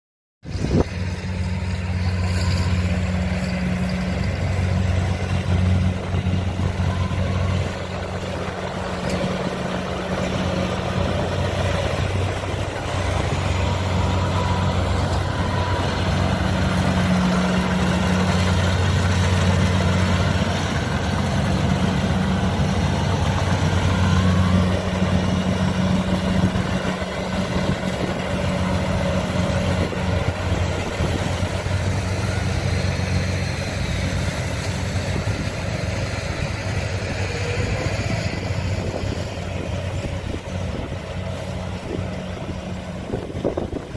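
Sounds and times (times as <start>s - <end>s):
combine harvester engine humming: 0.5s - 43.9s.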